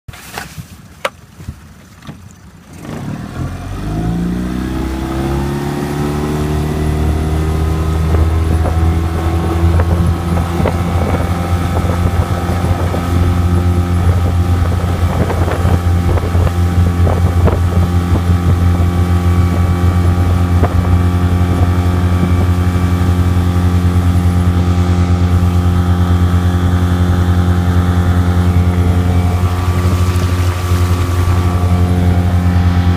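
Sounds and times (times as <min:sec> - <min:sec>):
boat engine running: 0:01.0 - 0:32.9.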